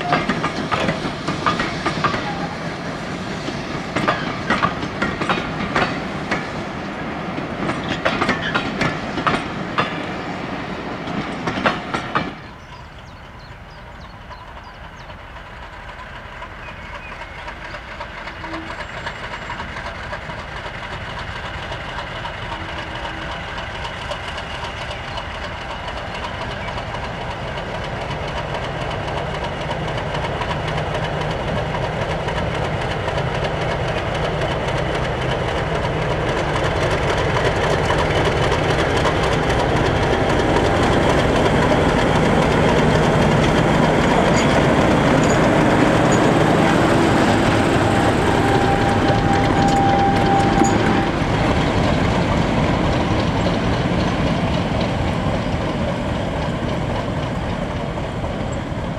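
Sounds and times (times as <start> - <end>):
train wheels clattering over rail joints: 0.0 - 13.2, 14.0 - 58.9
diesel locomotive engine running: 0.0 - 58.9.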